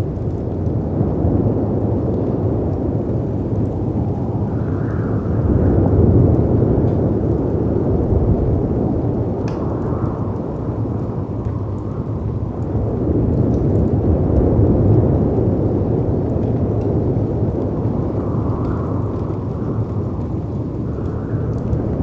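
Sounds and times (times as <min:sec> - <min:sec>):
wind rushing: 0:01.4 - 0:22.0.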